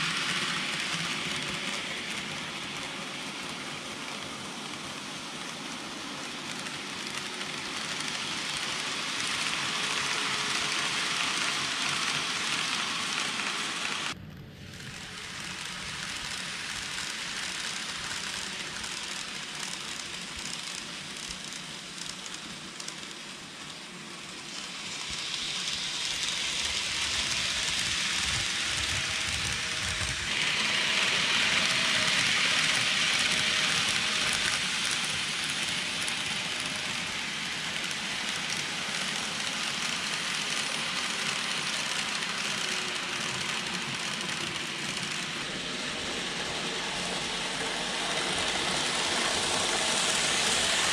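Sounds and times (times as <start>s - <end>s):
model train running on track: 0.0s - 50.9s.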